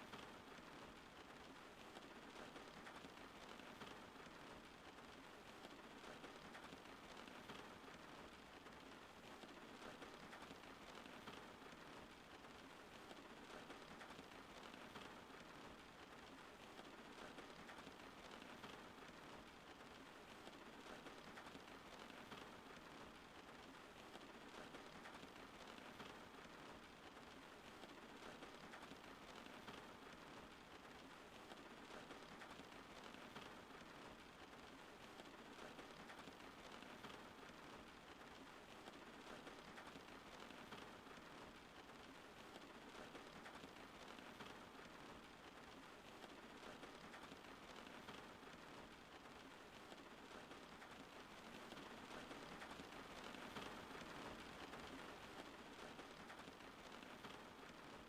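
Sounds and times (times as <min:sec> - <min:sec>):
faint steady rain: 0:00.0 - 0:58.0.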